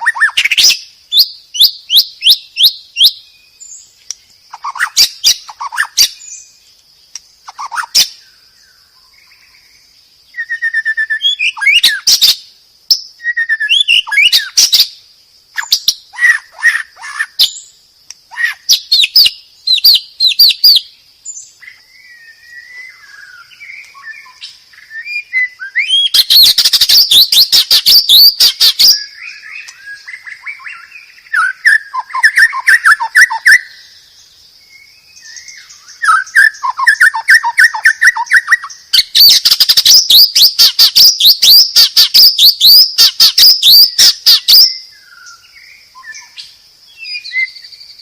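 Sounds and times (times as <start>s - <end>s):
bird singing whistled notes: 0.0s - 48.0s.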